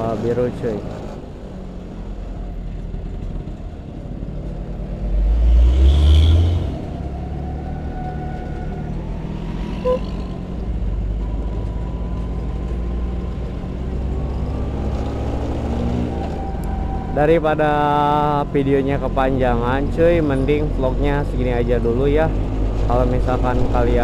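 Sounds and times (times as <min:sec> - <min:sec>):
traffic: 0:00.0 - 0:24.0.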